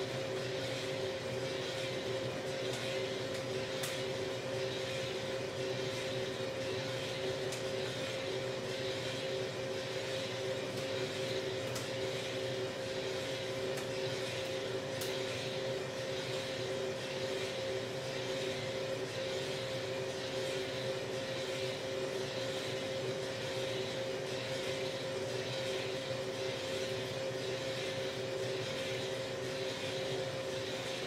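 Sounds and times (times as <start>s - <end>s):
coffee roaster motor hum: 0.0s - 31.0s.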